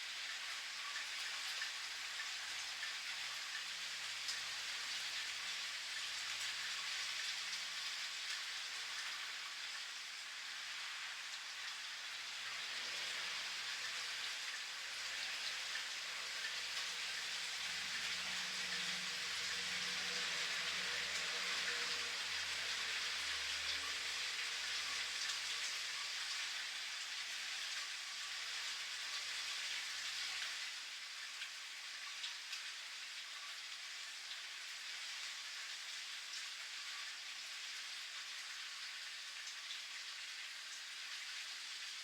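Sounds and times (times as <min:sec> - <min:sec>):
steady rain pattering: 0:00.0 - 0:42.0.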